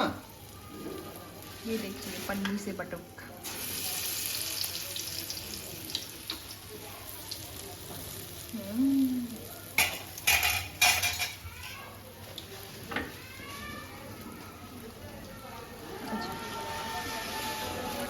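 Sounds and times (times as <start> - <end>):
fritters sizzling in hot oil: 0.0 - 18.0.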